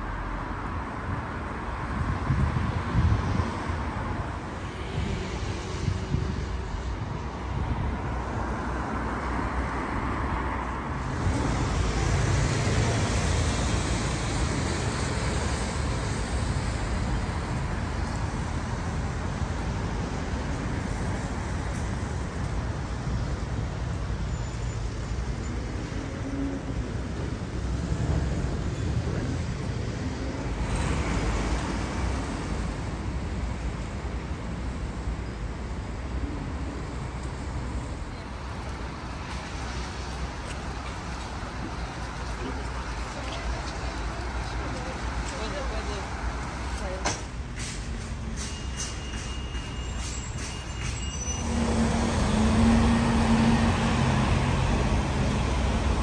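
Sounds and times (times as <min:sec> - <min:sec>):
traffic on wet road: 0:00.0 - 0:56.0.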